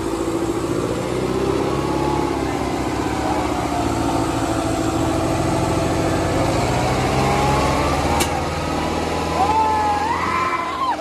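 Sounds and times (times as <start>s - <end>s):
diesel tractor engines under load: 0.0s - 11.0s.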